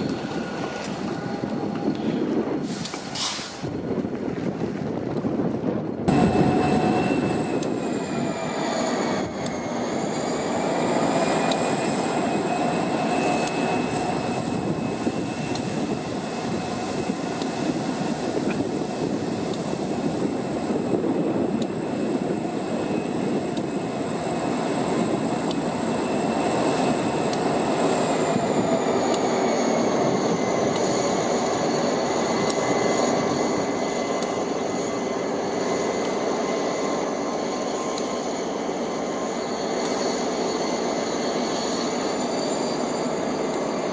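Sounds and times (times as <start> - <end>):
diesel locomotives whining: 0.0 - 43.9.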